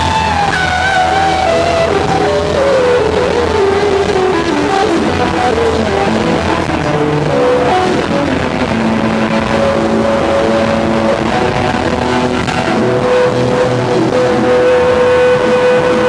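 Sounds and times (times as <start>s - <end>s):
bass guitar: 0.0s - 16.0s
electric guitar lead: 0.0s - 16.0s.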